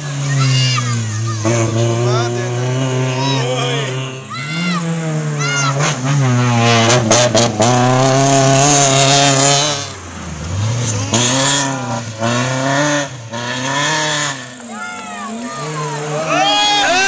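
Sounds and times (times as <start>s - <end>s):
rally car engines revving past: 0.0s - 17.0s.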